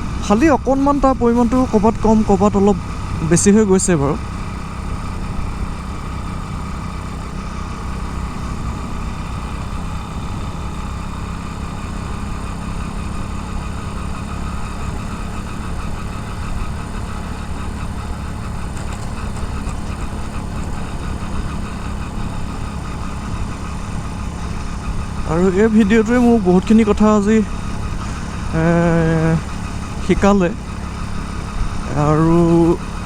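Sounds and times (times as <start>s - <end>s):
motorcycle engine rumbling: 0.0s - 33.0s
road noise: 0.0s - 33.0s.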